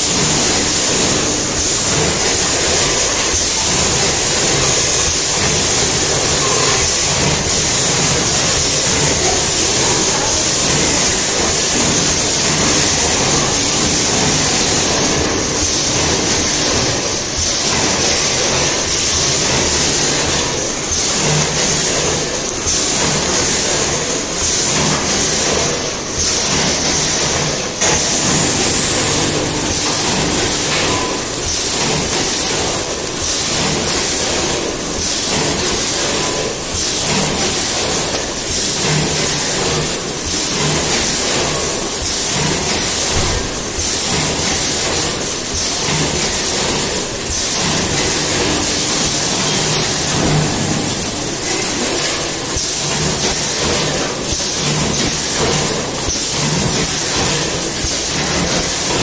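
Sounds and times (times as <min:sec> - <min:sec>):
packing machine din with whine: 0:00.0 - 0:59.0.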